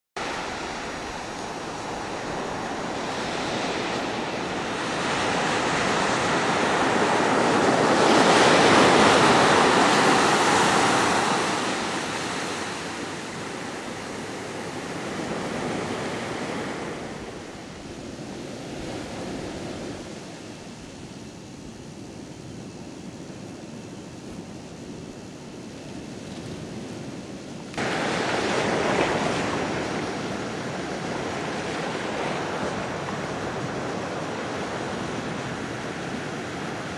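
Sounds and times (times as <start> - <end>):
ocean surf on sandy beach: 0.2 - 36.9.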